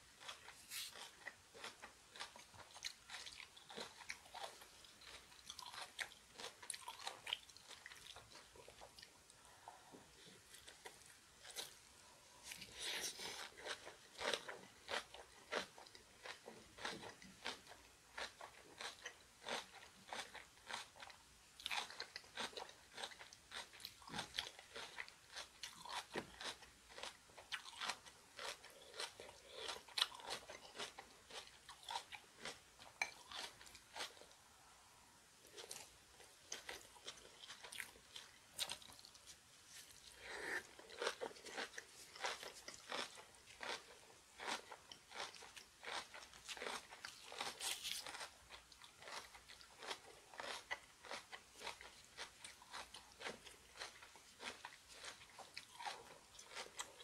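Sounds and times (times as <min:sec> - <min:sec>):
person chewing crunchy food: 0:00.0 - 0:34.4, 0:35.4 - 0:57.0.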